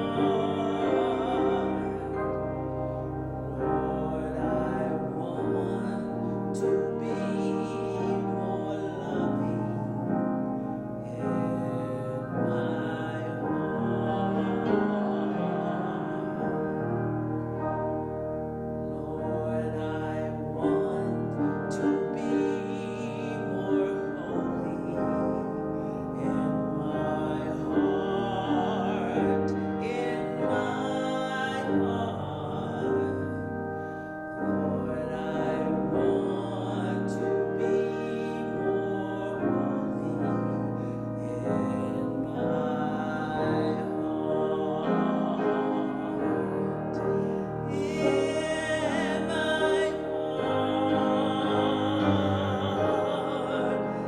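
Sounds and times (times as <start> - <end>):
keyboard accompaniment: 0.0 - 54.0.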